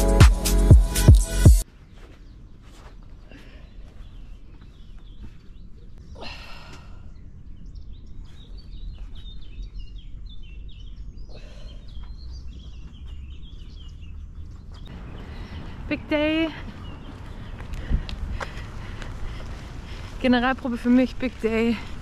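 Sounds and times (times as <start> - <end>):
birds chirping: 2.1 - 22.0.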